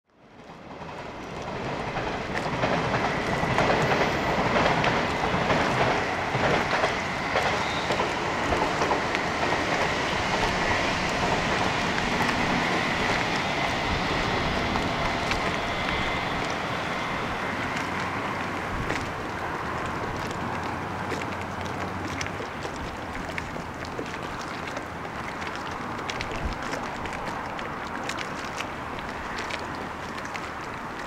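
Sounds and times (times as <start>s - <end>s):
train running rumble: 0.3s - 28.0s.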